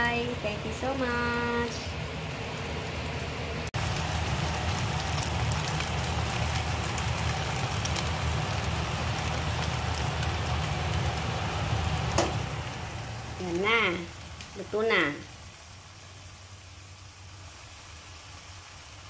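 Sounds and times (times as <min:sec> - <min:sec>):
low steady hum: 0:00.0 - 0:17.6
noodles sizzling in a wok: 0:00.0 - 0:19.0.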